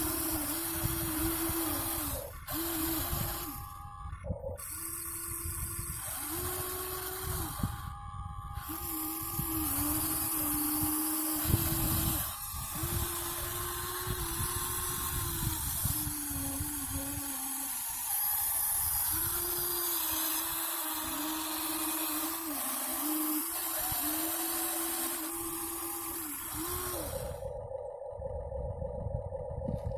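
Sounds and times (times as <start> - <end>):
toy excavator motors whirring: 0.0 - 28.4
faint steady hum: 0.0 - 29.9.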